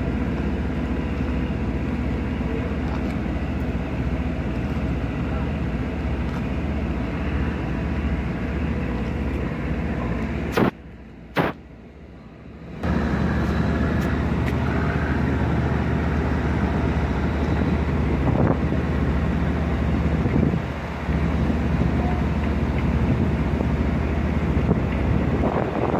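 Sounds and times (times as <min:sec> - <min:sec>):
diesel engine rumble: 0:00.0 - 0:25.9.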